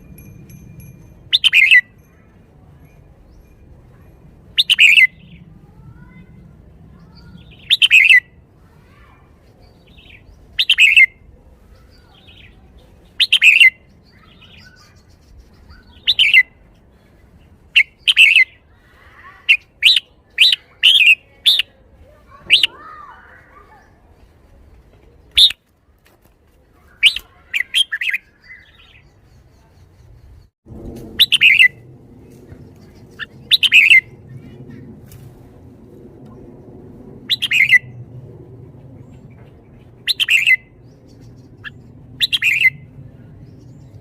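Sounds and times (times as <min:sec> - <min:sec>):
bird singing chirpy phrases: 0:01.3 - 0:01.9, 0:03.2 - 0:24.4, 0:25.1 - 0:25.6, 0:26.8 - 0:30.5, 0:31.2 - 0:35.2, 0:36.3 - 0:38.2, 0:38.8 - 0:44.0.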